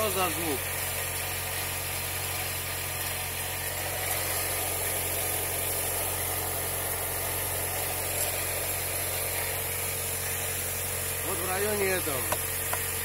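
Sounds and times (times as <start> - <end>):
car engine running: 0.0 - 13.0
noise from belt pulley bearing: 0.0 - 13.0.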